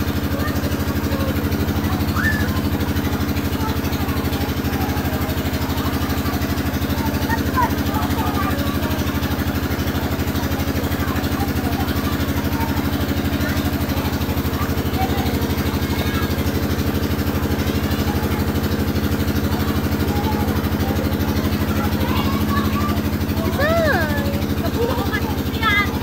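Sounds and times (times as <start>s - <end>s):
engine running with fast pulse: 0.0s - 26.0s
faint voices: 0.0s - 26.0s.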